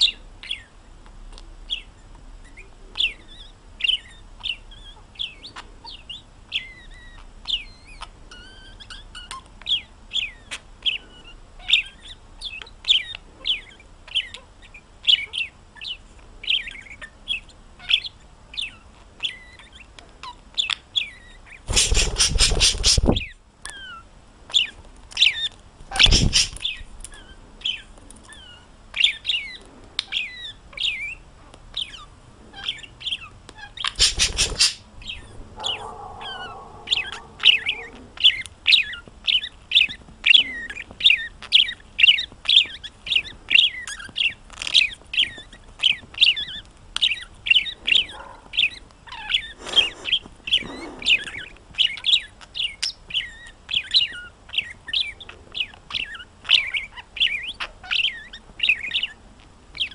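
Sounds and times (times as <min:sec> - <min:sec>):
budgerigar chirping: 0:01.7 - 0:31.2, 0:31.8 - 0:59.2.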